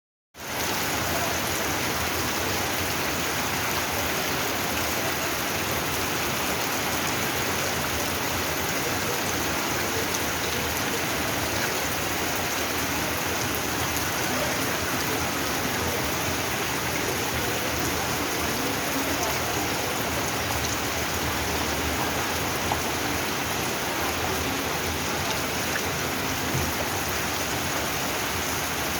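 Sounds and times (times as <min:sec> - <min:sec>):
rain falling: 0:00.4 - 0:28.9.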